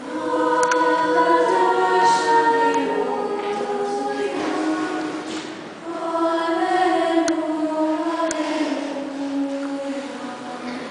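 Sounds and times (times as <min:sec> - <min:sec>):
choir singing a hymn: 0:00.0 - 0:10.9.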